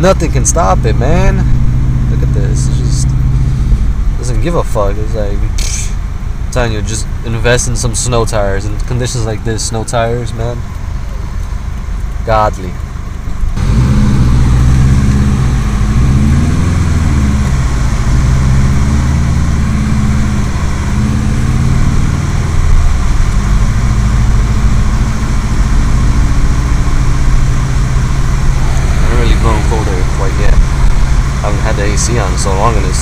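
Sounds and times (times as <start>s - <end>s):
car engine from inside cabin: 0.0s - 33.0s
rushing road noise: 0.0s - 33.0s.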